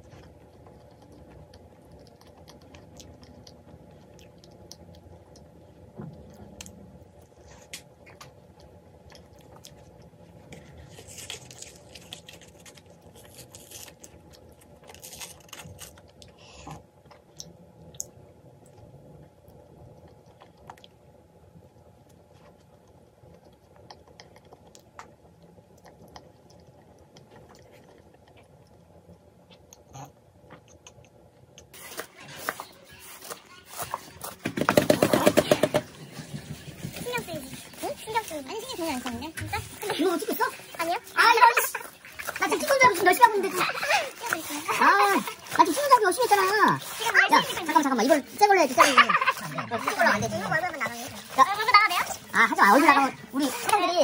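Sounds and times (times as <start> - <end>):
chewing and crunching pastry: 0.0 - 34.4, 36.0 - 54.0.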